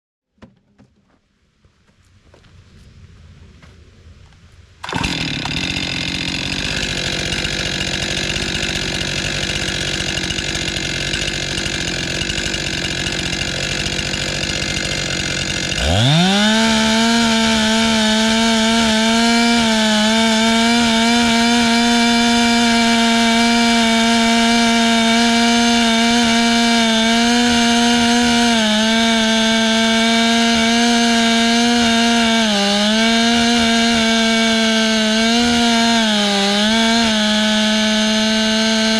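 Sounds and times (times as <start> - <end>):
chainsaw running: 4.8 - 38.9.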